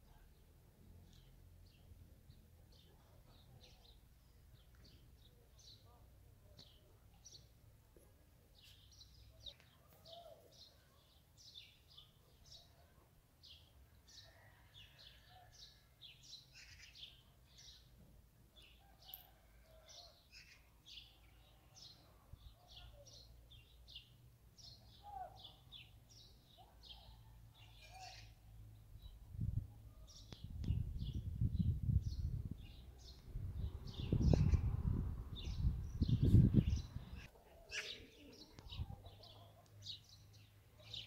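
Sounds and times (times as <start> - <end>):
small songbirds chirping: 0.0 - 41.0.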